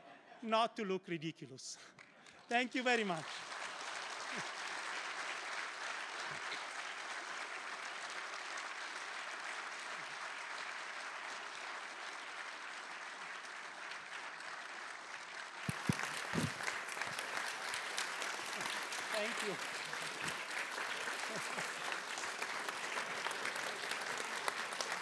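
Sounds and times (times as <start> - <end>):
audience applauding: 2.0 - 25.0.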